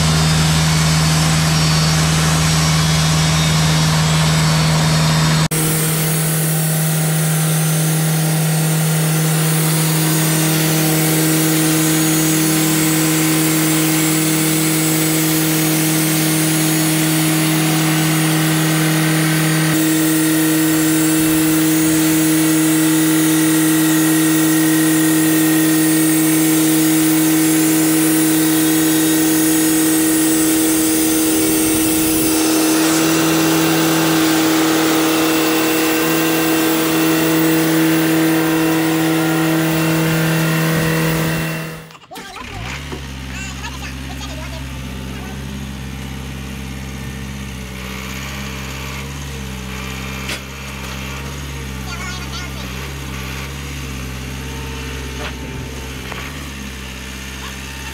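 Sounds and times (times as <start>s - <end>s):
sawmill engine humming: 0.0s - 57.9s.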